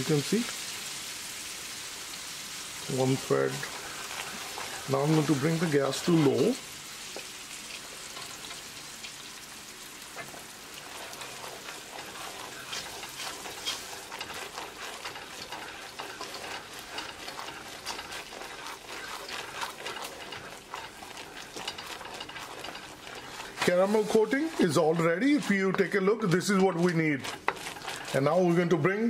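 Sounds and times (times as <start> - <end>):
syrup bubbling and sizzling: 0.0 - 29.0
wooden spatula scraping pan: 2.9 - 8.7, 10.0 - 29.0.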